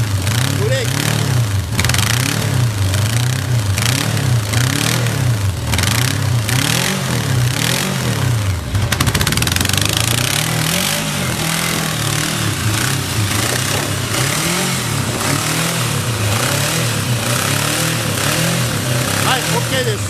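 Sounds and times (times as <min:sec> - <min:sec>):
engine revving unevenly: 0:00.0 - 0:20.0
rapid ticks: 0:00.2 - 0:07.0, 0:08.8 - 0:19.9.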